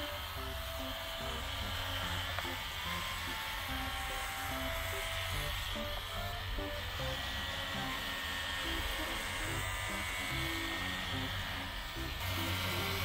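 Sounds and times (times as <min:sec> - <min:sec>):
background music: 0:00.0 - 0:13.0
electric sander buzzing: 0:00.0 - 0:13.0.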